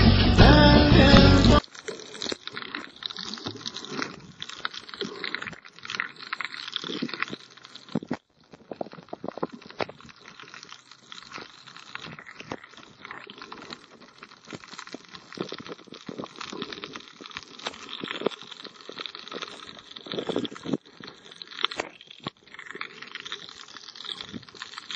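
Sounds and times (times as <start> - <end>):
underwater crackling and clicking: 1.6 - 24.9.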